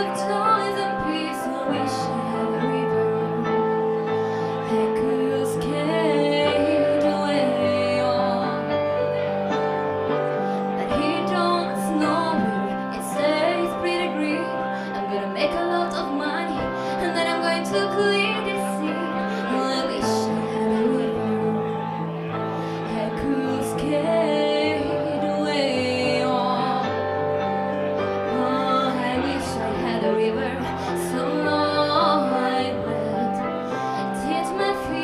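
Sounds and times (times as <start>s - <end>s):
woman singing: 0.0s - 9.1s, 10.6s - 27.3s, 28.2s - 35.0s
sustained instrumental chords: 0.0s - 35.0s.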